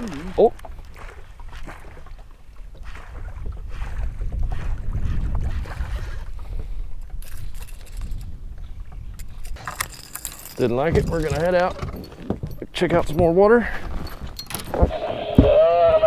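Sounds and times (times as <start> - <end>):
wind rumble on microphone: 0.6 - 9.9, 10.6 - 16.0.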